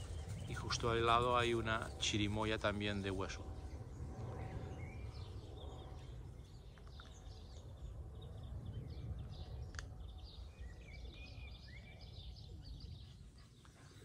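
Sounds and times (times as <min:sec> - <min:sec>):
low steady rumble: 0:00.0 - 0:13.9
small birds chirping: 0:00.0 - 0:14.0.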